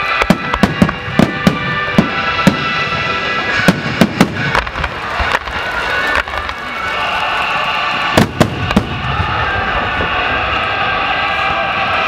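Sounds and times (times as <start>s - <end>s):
fireworks bangs: 0.0s - 11.6s
music with long held notes: 0.0s - 12.0s.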